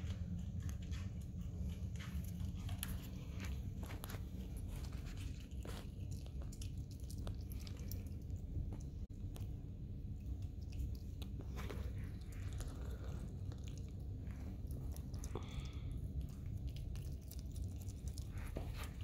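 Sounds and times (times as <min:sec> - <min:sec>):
skunk chewing wetly: 0:00.0 - 0:19.0
steady low rumble: 0:00.0 - 0:19.0.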